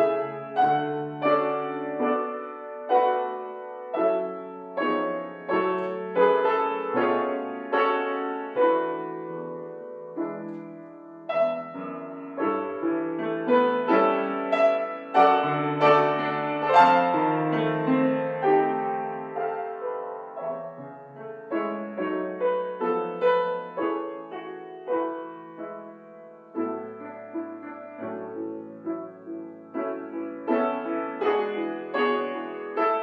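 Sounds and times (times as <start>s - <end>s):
slow gentle piano music: 0.0s - 33.0s.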